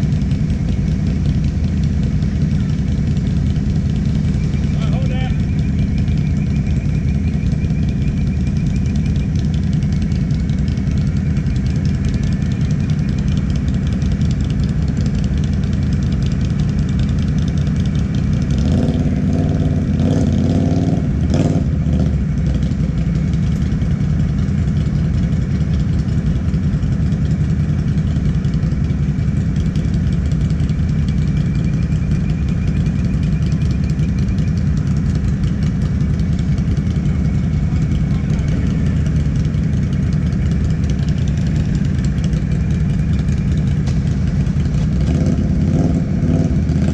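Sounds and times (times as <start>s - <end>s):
quad bike engine idling: 0.0s - 46.9s
rough engine sound: 0.0s - 46.9s.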